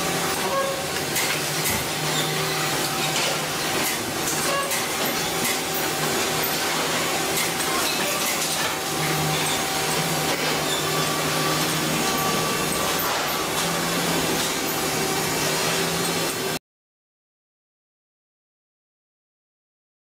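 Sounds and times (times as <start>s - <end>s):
crane machine humming: 0.0s - 16.6s.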